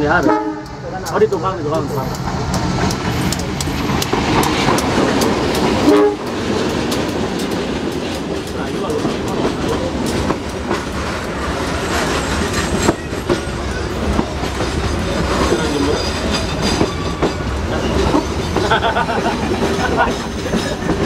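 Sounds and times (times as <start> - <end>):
train wheels clattering on track: 0.0 - 21.0.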